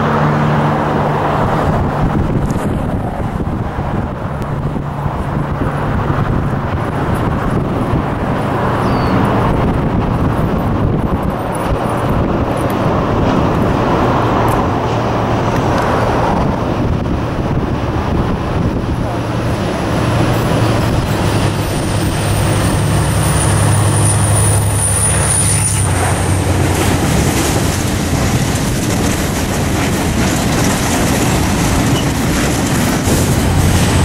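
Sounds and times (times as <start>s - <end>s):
diesel locomotive engine hum: 0.0s - 34.0s
outdoor noise: 0.0s - 34.0s.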